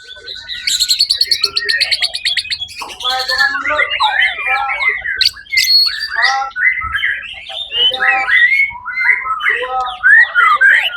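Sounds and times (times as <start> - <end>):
bird singing whistled phrases: 0.0 - 10.9.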